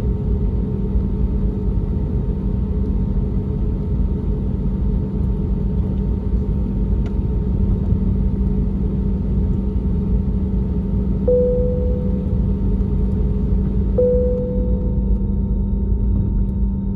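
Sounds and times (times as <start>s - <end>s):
aircraft cabin rumble: 0.0s - 16.9s.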